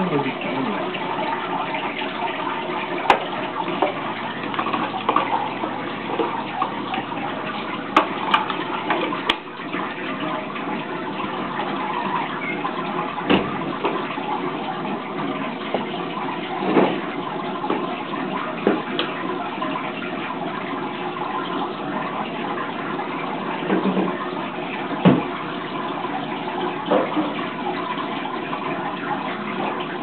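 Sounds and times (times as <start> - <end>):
water splashing into tank: 0.0 - 30.0.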